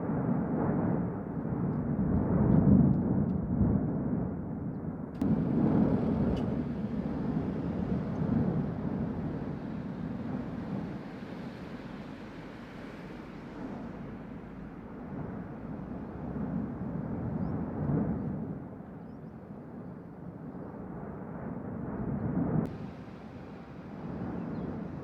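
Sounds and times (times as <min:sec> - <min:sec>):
volcano rumbling: 0:00.0 - 0:25.0.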